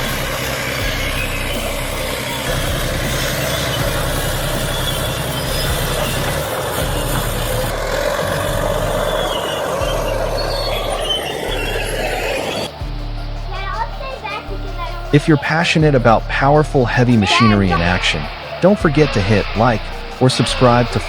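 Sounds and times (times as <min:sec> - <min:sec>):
work noise: 0:00.0 - 0:13.5, 0:15.1 - 0:21.0
diesel machinery engine drone: 0:00.0 - 0:21.0.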